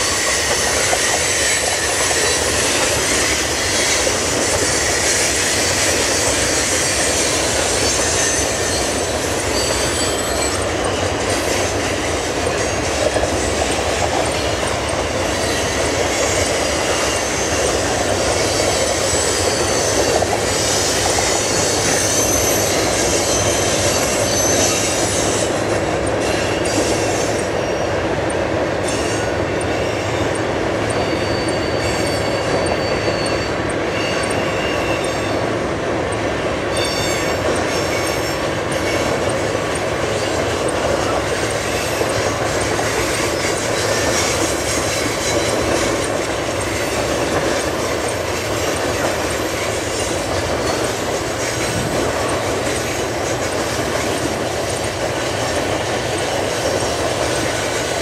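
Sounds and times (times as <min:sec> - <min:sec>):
high wheel squeal: 0:00.0 - 0:28.1, 0:28.8 - 0:35.6, 0:36.3 - 0:58.0
steel wheels on rails: 0:00.0 - 0:58.0.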